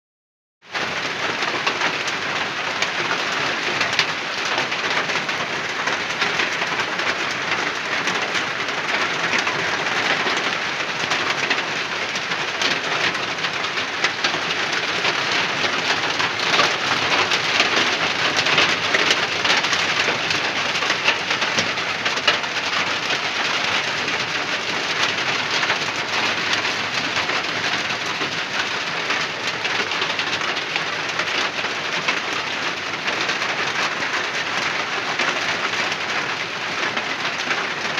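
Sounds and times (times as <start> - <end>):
heavy rain falling: 0.7 - 37.9.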